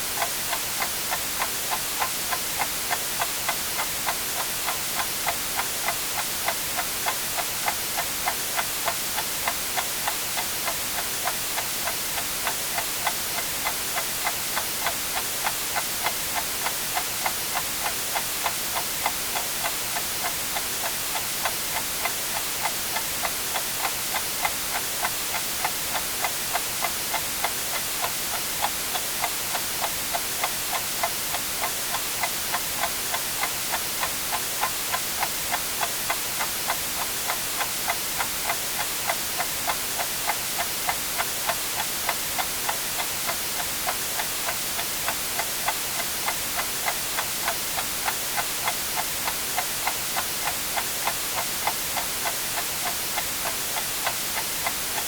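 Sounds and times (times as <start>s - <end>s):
white noise hiss: 0.0s - 55.0s
clock ticking: 0.2s - 55.0s.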